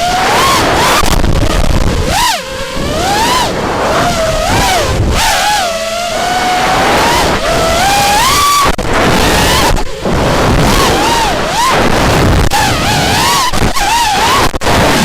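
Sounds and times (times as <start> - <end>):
quadcopter motors whining: 0.0 - 15.0
rumbling wind noise: 0.0 - 15.0.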